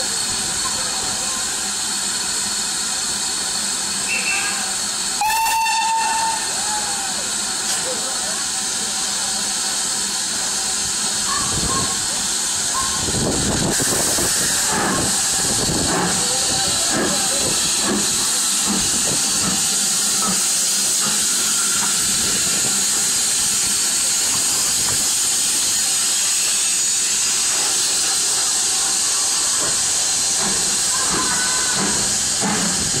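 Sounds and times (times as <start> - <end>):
steam hissing: 0.0 - 33.0.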